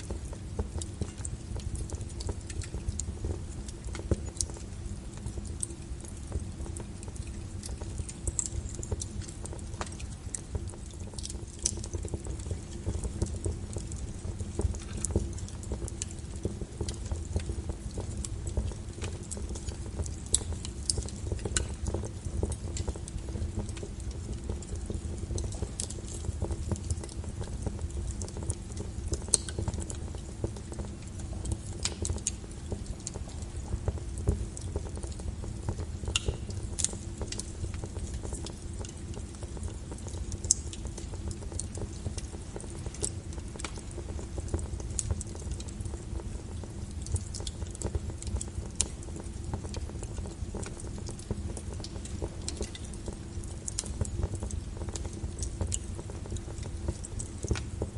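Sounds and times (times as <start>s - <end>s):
fire rumbling: 0.0s - 57.9s
wood crackling and popping: 0.0s - 57.9s.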